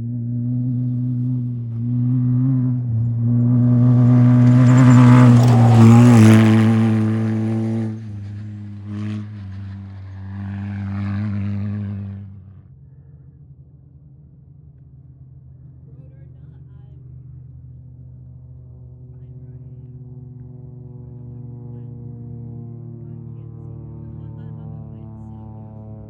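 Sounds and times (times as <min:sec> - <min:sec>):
race vehicle engine running hard: 0:00.0 - 0:26.0.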